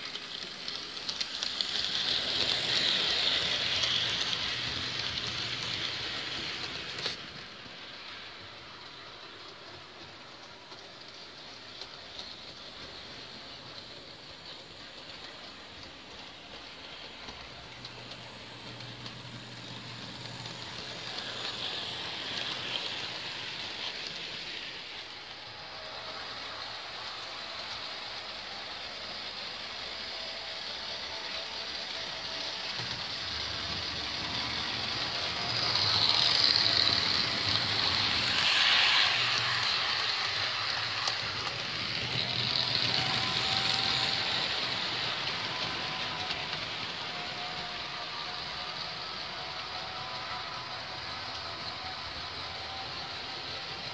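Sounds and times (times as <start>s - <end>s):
model train rattling whir on rails: 0.0s - 53.9s.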